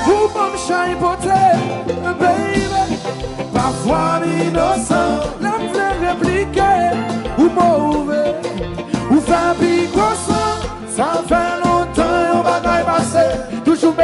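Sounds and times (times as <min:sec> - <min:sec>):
live band playing: 0:00.0 - 0:14.0
person singing: 0:00.0 - 0:14.0.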